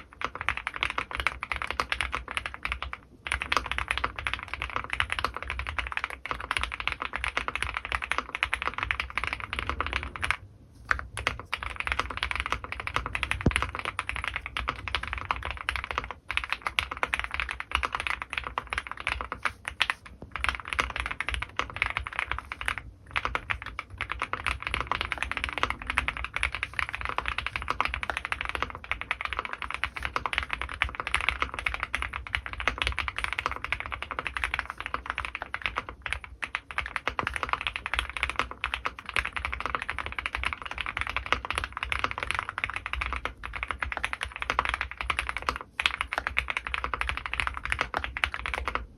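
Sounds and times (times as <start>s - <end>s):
fast typing on mechanical keyboard: 0.0s - 48.9s.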